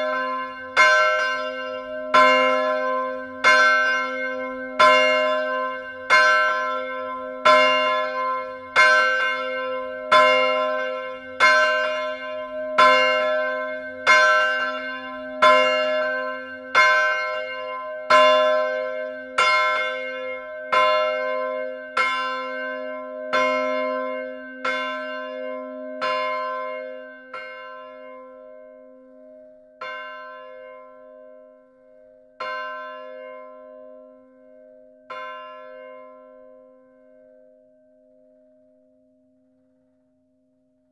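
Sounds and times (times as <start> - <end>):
church bell ringing: 0.0 - 39.4.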